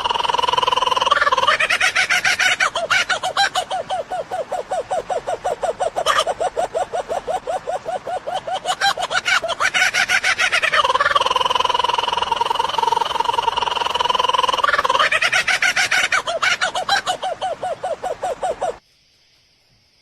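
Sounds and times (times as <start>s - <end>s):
bird calling in fast repeated notes: 0.0s - 18.8s.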